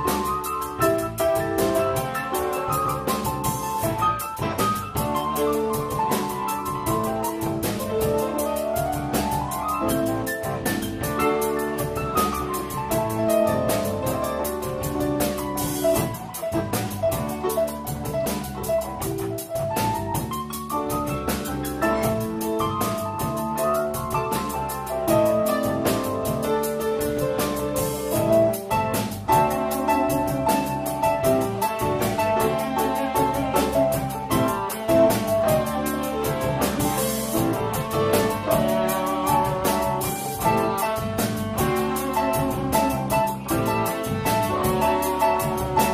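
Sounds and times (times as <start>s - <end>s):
drum kit steady beat: 0.0s - 45.9s
held keyboard notes: 0.0s - 45.9s
live rock band playing: 0.0s - 45.9s.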